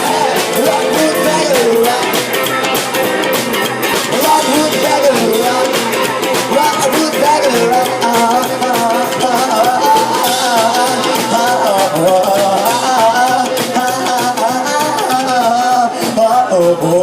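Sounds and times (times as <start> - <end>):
live band playing up-tempo song: 0.0 - 17.0
sung chorus: 0.0 - 17.0.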